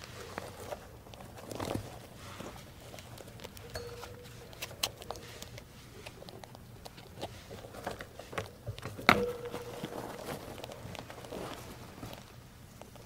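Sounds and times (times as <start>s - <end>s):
rats crunching food: 0.0s - 13.0s.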